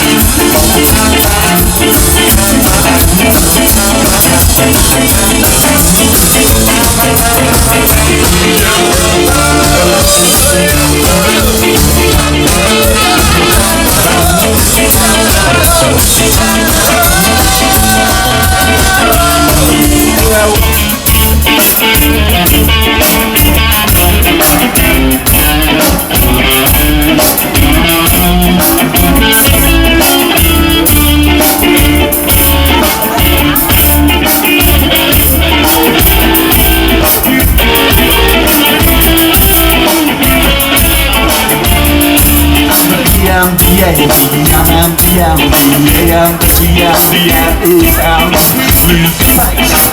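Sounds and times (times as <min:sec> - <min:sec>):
ska band playing live: 0:00.0 - 0:49.9.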